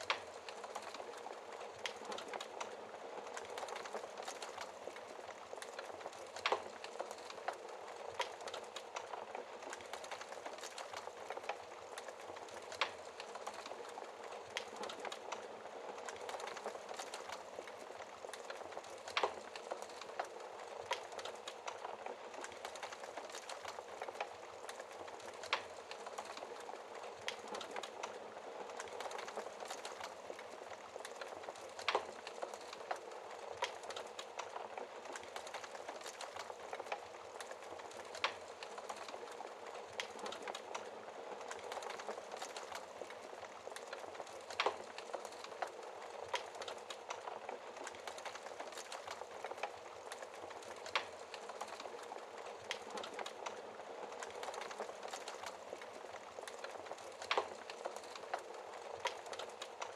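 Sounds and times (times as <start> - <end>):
fire crackling: 0.0 - 59.9.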